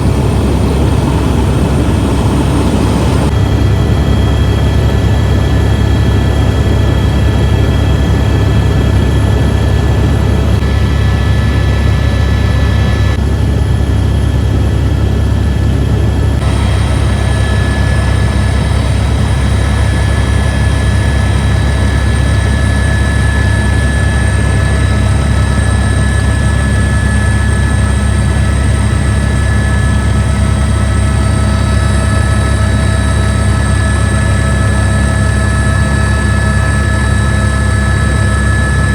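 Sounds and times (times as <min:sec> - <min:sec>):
helicopter rotor and turbine drone: 0:00.0 - 0:38.9
high turbine whine: 0:00.0 - 0:38.9.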